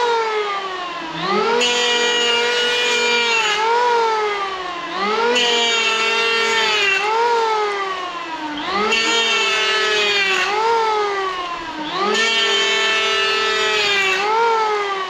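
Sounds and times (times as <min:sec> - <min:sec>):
electric planer whining: 0:00.0 - 0:15.0.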